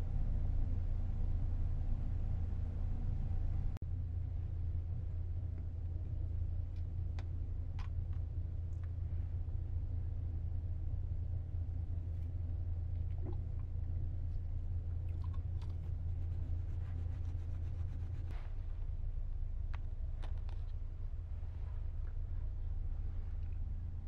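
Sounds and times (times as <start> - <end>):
ferry engine drone: 0.0 - 24.0.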